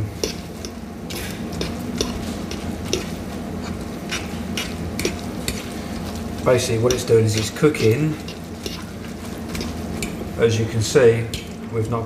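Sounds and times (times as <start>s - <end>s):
forks scraping frying pan: 0.2s - 10.4s.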